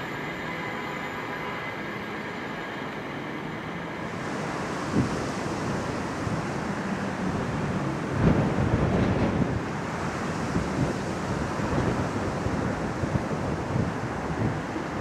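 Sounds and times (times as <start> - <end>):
train rolling past: 0.0 - 15.0.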